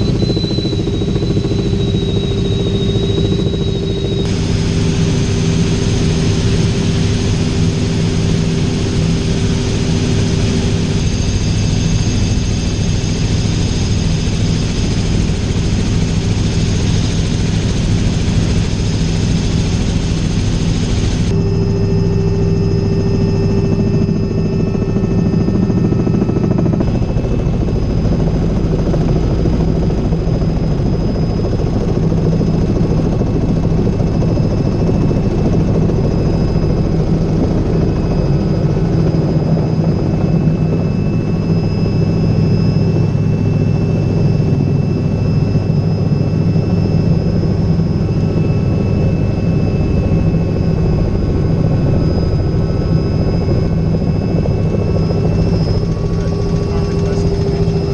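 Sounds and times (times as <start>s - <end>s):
helicopter engine and rotors: 0.0s - 57.9s.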